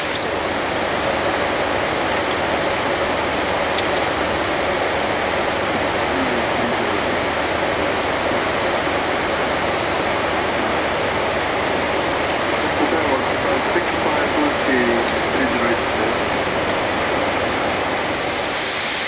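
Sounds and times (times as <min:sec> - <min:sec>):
air-conditioning hiss: 0:00.0 - 0:19.0
airflow rushing over cockpit: 0:00.0 - 0:19.0.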